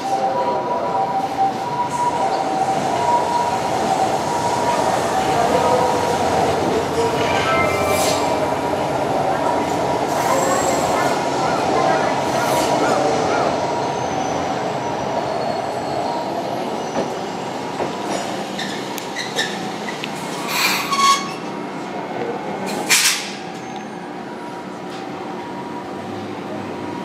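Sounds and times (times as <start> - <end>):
tram rumbling at low speed: 0.0 - 27.0.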